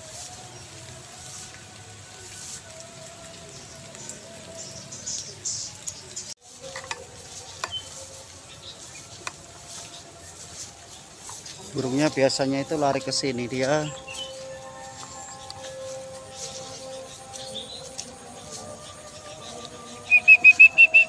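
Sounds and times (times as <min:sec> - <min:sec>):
light rain pattering on leaves: 0:00.0 - 0:21.0.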